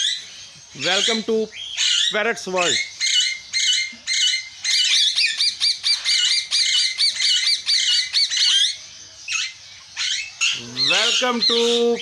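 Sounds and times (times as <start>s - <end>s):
parakeets screeching: 0.0s - 12.0s.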